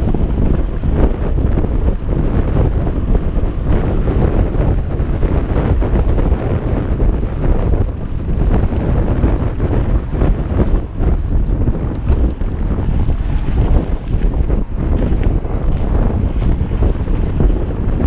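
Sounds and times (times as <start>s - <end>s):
tyres rumbling on dirt: 0.0s - 18.0s
wind buffeting microphone: 0.0s - 18.0s.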